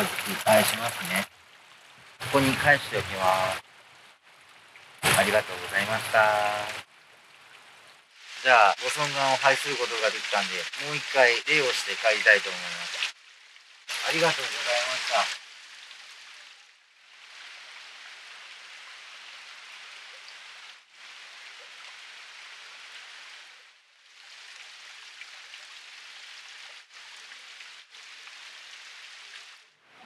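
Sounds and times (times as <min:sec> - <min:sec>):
hiss of falling water: 0:00.0 - 0:01.3, 0:02.2 - 0:03.6, 0:05.0 - 0:06.9, 0:08.1 - 0:29.8.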